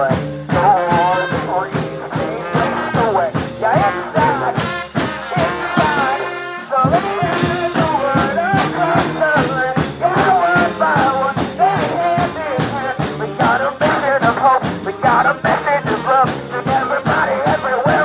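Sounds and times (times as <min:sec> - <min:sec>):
brass band playing: 0:00.0 - 0:18.0
steady drum beat: 0:00.0 - 0:18.0.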